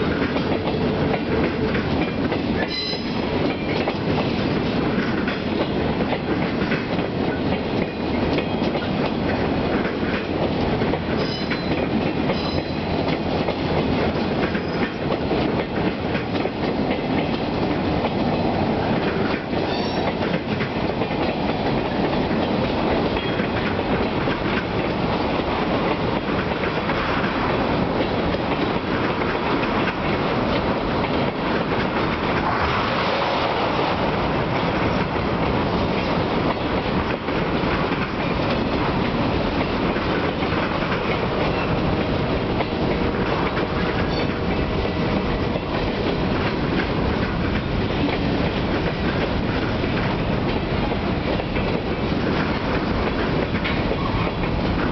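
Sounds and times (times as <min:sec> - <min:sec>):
freight train rumbling past: 0:00.0 - 0:54.9
steel wheels clacking on rail joints: 0:00.0 - 0:54.9.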